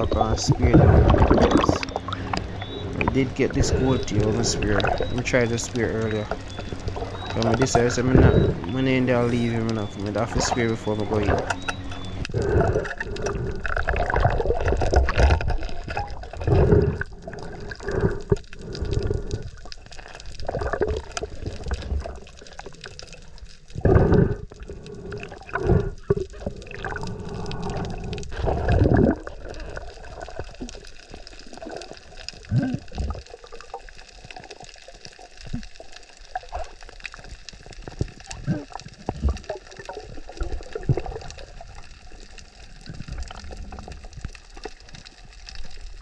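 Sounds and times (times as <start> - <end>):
water sloshing and gurgling: 0.0 - 46.0.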